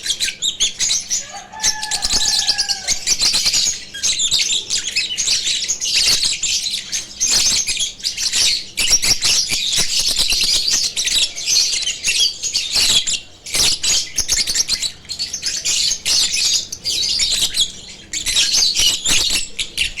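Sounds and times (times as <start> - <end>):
lovebirds chirping: 0.0 - 20.0.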